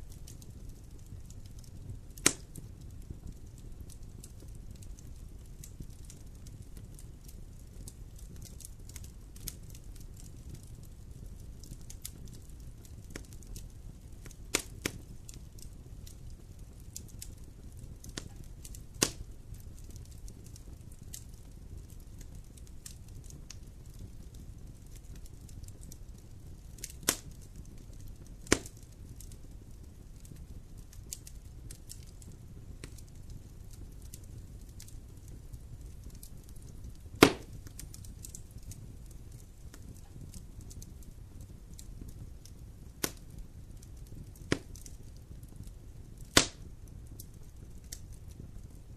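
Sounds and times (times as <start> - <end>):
fire crackles: 0.0 - 48.9
loud fire pops: 0.0 - 48.9
rush of flames: 0.0 - 48.9.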